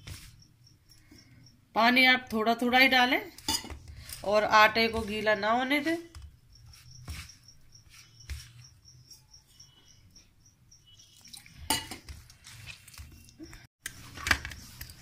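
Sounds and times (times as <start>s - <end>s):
hands mixing dough in steel plate: 2.0s - 10.4s, 11.0s - 15.0s.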